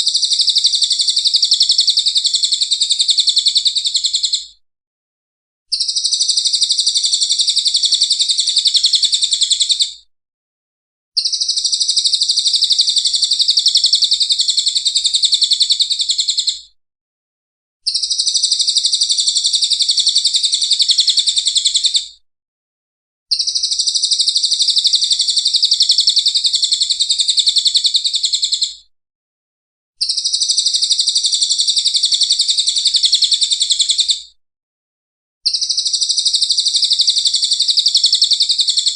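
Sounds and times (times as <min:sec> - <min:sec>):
rapid high-pitched bird trill: 0:00.0 - 0:04.5, 0:05.7 - 0:10.0, 0:11.2 - 0:16.6, 0:17.8 - 0:22.0, 0:23.3 - 0:28.8, 0:30.0 - 0:34.3, 0:35.4 - 0:38.9.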